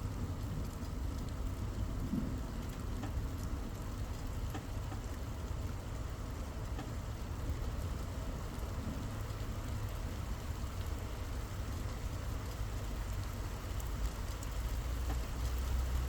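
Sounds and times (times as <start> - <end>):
low steady rumble: 0.0 - 16.0
steady rain falling: 0.0 - 16.0.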